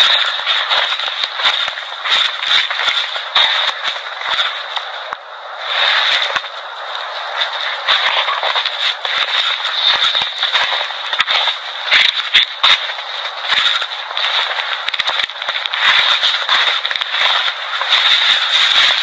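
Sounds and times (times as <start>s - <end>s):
crackling static hiss: 0.0s - 19.0s.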